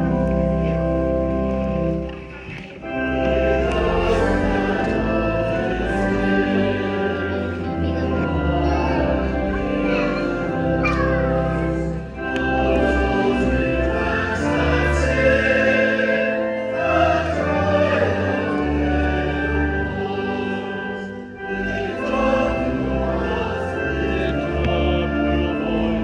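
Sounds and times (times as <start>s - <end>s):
instrumental accompaniment with bass: 0.0s - 26.0s
choir singing a hymn: 2.8s - 26.0s.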